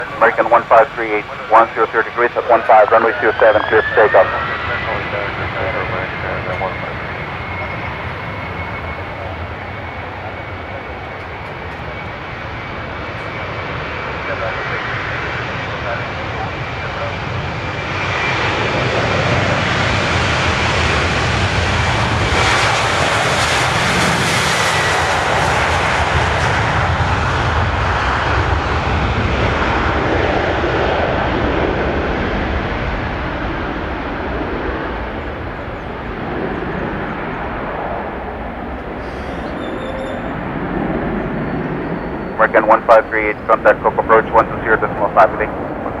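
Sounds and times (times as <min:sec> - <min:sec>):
jet engines at takeoff: 0:00.0 - 0:46.0.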